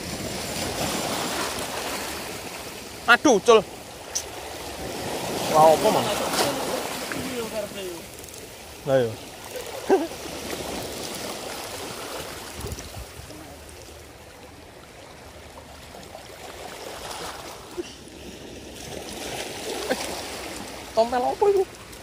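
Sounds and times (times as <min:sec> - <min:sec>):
waves lapping on rocks: 0:00.0 - 0:22.0.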